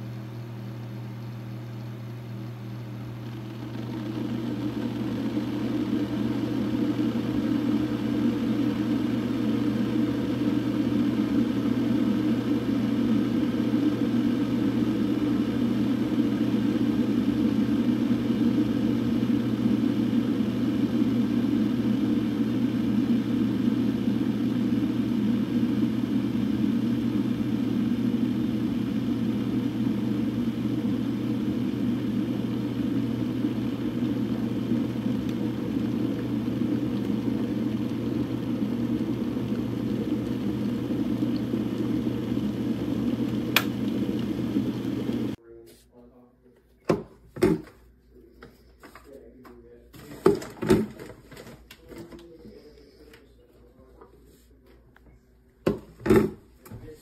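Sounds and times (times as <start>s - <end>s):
electric kettle heating water: 0.0s - 45.4s, 50.0s - 52.4s, 55.7s - 56.8s.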